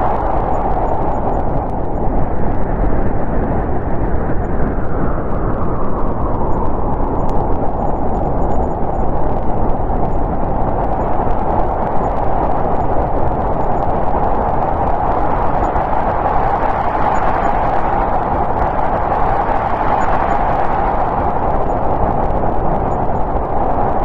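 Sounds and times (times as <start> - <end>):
strong snowstorm wind: 0.0 - 24.0.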